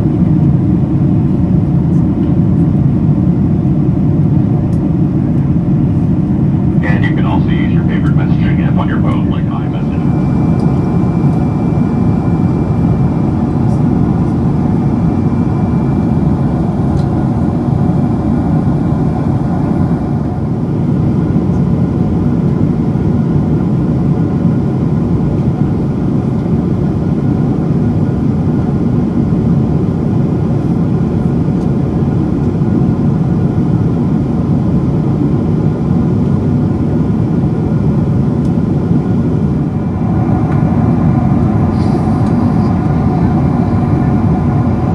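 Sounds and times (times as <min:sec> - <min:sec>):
airliner cabin engine noise: 0:00.0 - 0:44.9.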